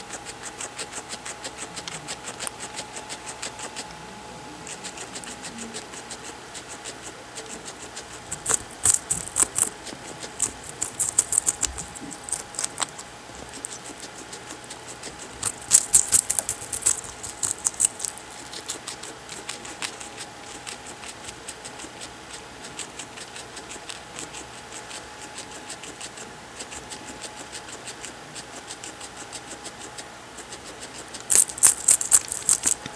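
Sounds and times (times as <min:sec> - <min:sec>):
guinea pig crunching carrot: 0:00.0 - 0:32.9.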